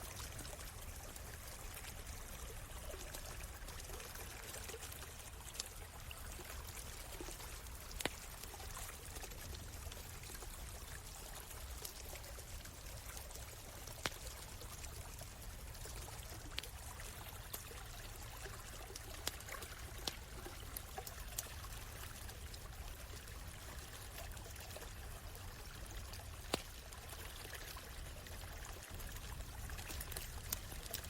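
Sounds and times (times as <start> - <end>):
stream trickling: 0.0 - 31.0
campfire popping: 4.6 - 31.0.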